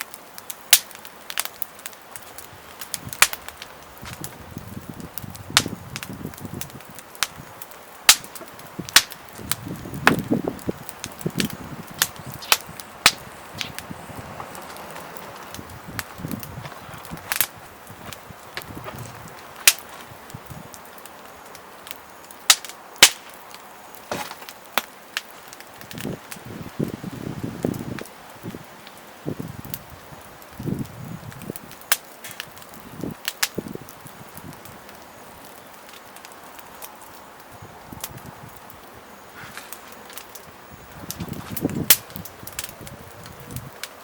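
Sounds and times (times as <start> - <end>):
campfire crackling and popping: 0.0 - 44.0
faint steady hiss: 0.0 - 44.0.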